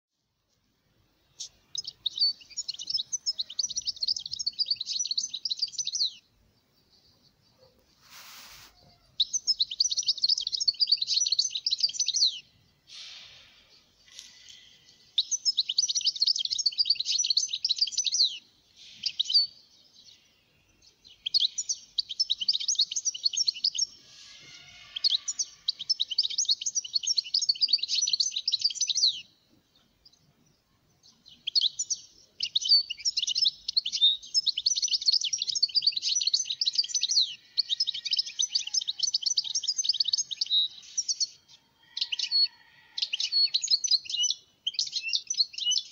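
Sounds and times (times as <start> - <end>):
goldfinch twittering song: 1.3 - 8.6, 9.2 - 45.9.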